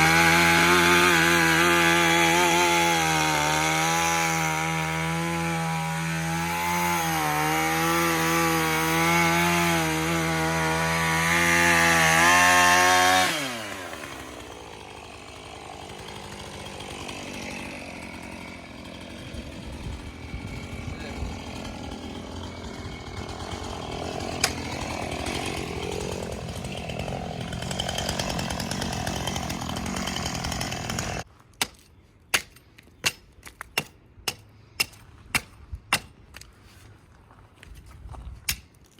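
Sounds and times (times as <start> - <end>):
chainsaw cutting: 0.0 - 31.3.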